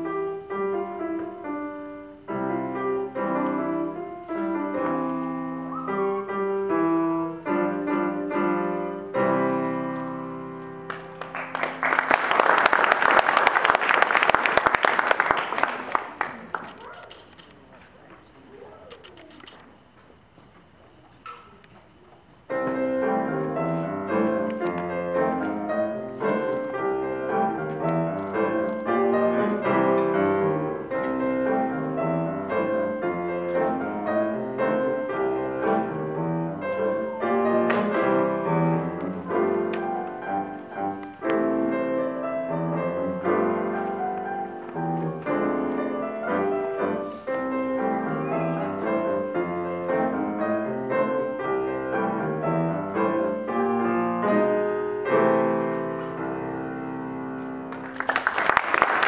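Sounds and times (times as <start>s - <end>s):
piano playing simple piece: 0.0s - 15.5s, 22.4s - 59.0s.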